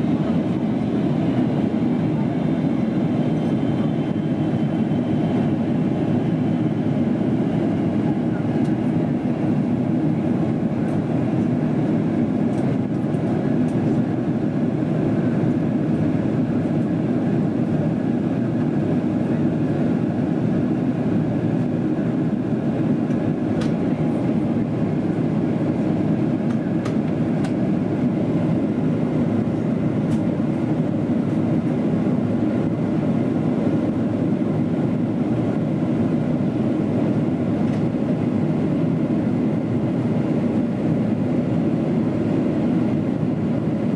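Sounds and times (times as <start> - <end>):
airplane cabin engine roar: 0.0 - 43.9.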